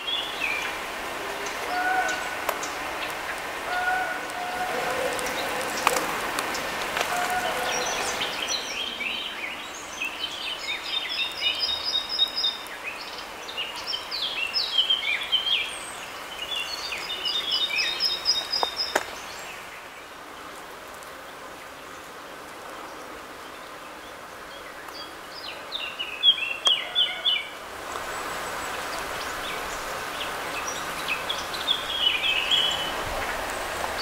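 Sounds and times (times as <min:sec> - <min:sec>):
songbird singing: 0:00.0 - 0:34.0
steady background hiss: 0:00.0 - 0:34.0.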